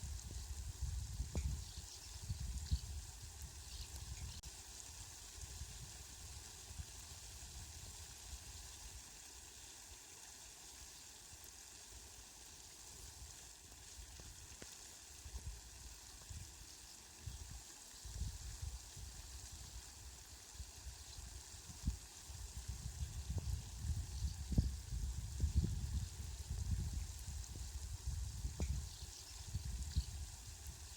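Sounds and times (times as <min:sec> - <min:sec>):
hiss of falling rain: 0:00.0 - 0:30.9.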